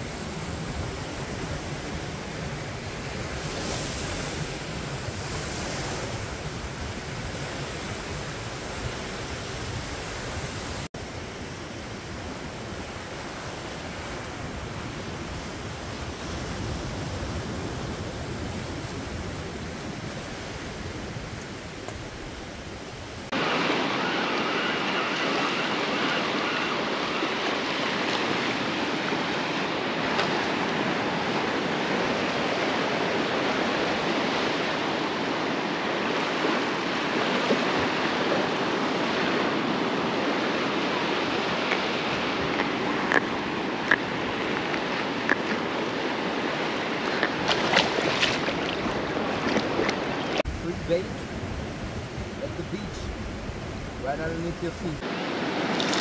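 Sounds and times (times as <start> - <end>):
ocean surf breaking: 0.0 - 56.0.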